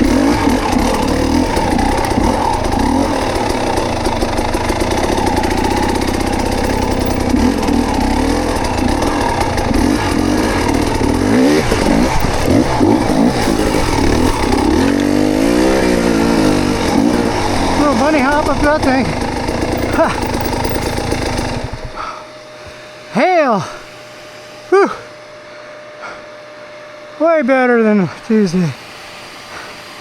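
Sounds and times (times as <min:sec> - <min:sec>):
off-road motorcycle engine revving: 0:00.0 - 0:28.0.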